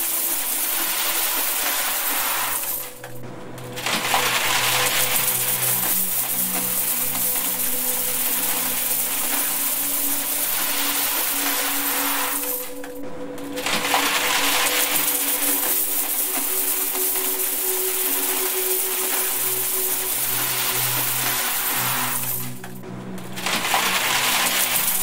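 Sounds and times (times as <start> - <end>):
coins pouring onto coins: 0.0 - 3.0, 3.8 - 12.9, 13.6 - 22.6, 23.4 - 25.0
held drone tones: 2.0 - 25.0.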